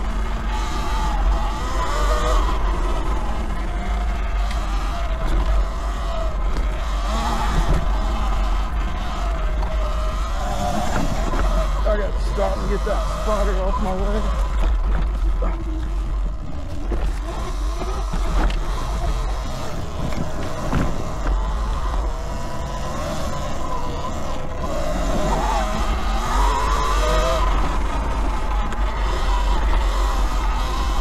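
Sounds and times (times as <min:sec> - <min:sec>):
electric motor whine: 0:00.0 - 0:31.0
wind and ground noise: 0:00.0 - 0:31.0.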